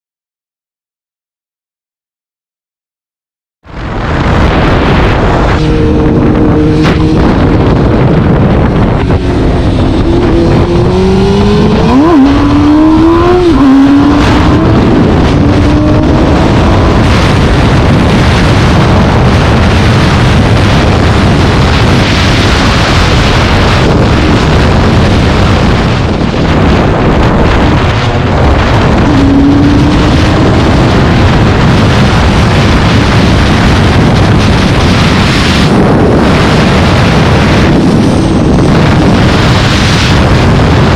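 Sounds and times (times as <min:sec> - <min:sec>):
wind and road noise: 0:03.6 - 0:40.9
vehicle engine running: 0:04.5 - 0:40.9.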